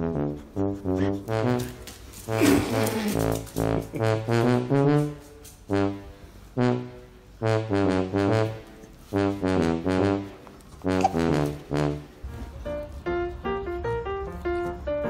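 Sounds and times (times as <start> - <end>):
low brass notes: 0.0 - 14.8.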